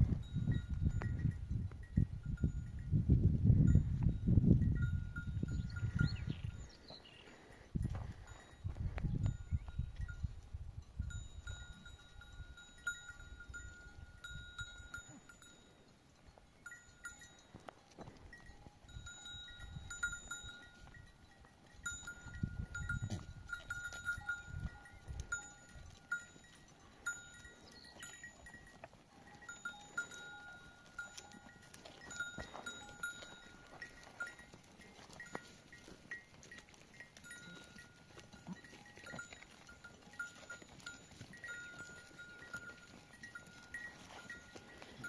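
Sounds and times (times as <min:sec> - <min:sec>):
sheep and goat bells ringing: 0:00.0 - 0:45.0.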